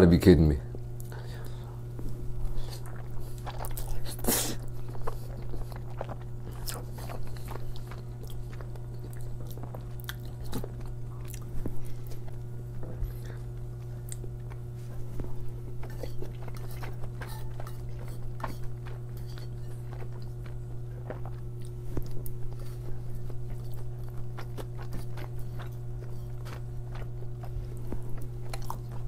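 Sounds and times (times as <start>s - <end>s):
person chewing and smacking: 1.0s - 29.0s.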